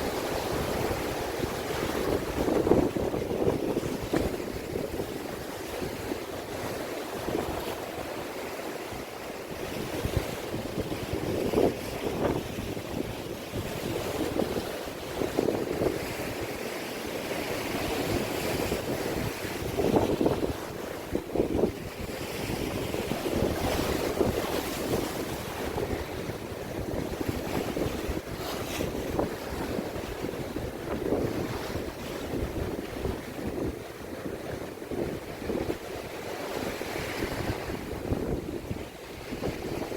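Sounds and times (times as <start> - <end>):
sea waves washing against shore: 0.0 - 39.9
wind buffeting microphone: 0.0 - 39.9.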